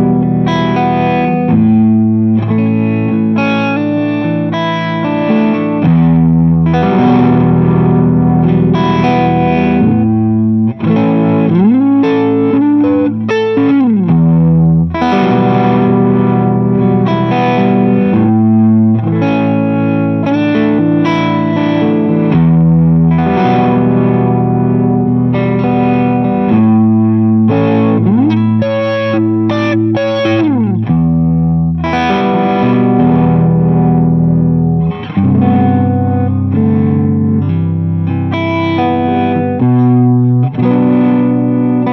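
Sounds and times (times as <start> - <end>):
electric guitar with phaser effect: 0.0 - 41.9.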